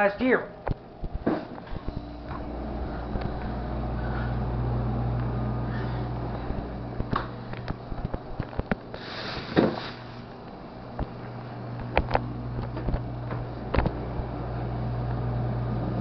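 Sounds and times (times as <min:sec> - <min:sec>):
low hum: 0:00.5 - 0:16.0.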